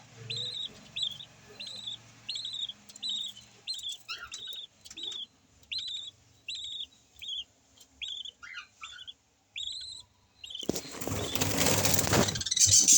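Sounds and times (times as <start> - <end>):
lovebirds chirping: 0.0 - 12.9.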